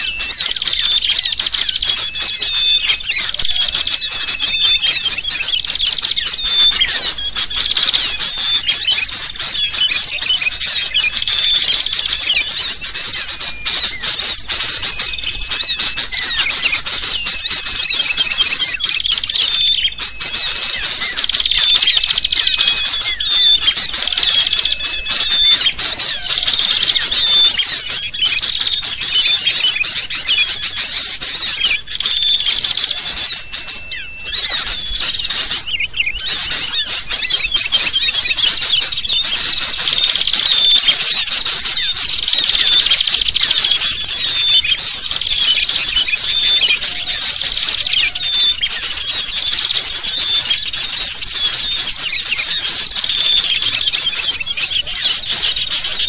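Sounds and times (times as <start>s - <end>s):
bulbul calls: 0.0s - 56.0s
small birds chirping: 0.0s - 56.0s.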